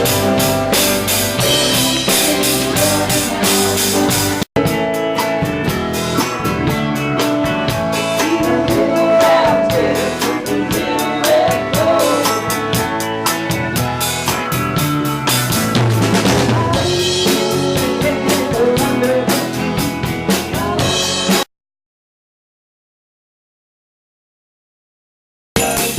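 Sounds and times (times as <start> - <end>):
drum kit beat: 0.0 - 21.5, 25.6 - 25.9
rock band playing: 0.0 - 21.5, 25.6 - 25.9.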